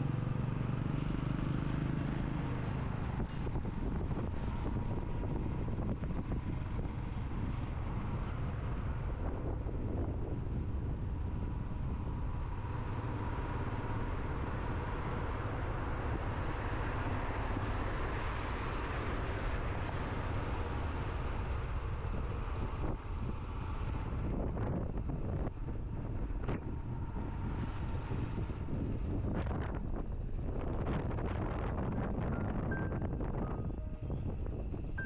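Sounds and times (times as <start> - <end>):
motorcycle low rumble: 0.0 - 35.0
wind rushing over microphone: 1.2 - 35.0.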